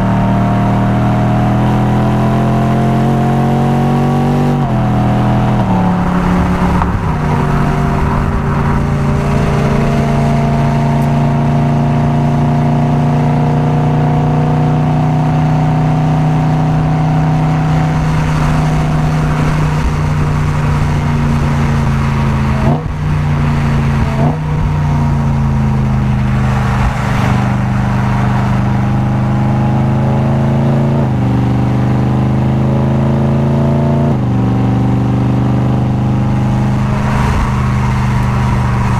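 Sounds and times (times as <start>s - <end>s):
car engine and exhaust under load: 0.0s - 38.9s.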